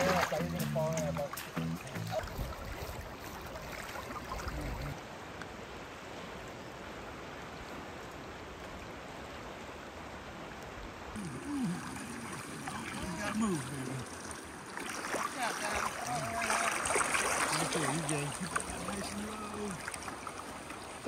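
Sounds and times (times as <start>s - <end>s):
river current rushing: 0.0s - 21.0s.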